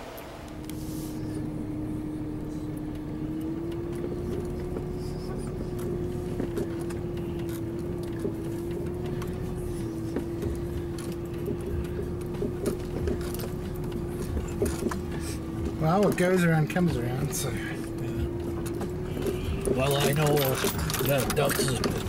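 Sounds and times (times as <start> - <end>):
truck engine and road rumble: 0.0 - 22.0
light knocks and rattles: 2.8 - 22.0.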